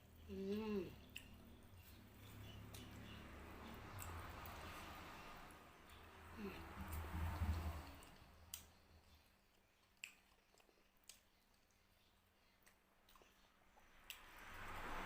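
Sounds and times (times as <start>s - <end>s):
person chewing food: 0.0s - 7.1s, 7.9s - 14.6s.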